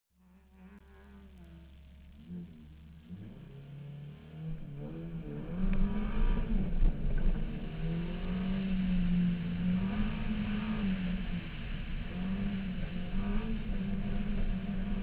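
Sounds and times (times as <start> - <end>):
race car engine revving: 0.3 - 15.0.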